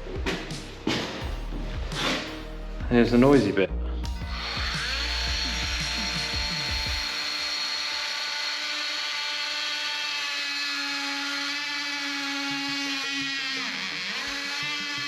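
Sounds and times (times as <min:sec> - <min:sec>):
multi-tool cutting wood: 0:00.0 - 0:02.5, 0:04.1 - 0:15.0.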